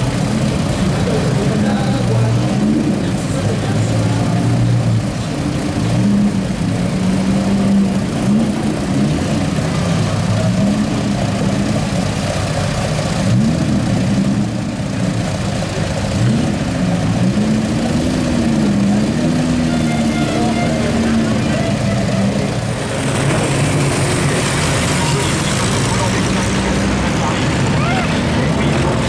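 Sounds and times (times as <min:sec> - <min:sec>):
race car engines idling: 0:00.0 - 0:29.0.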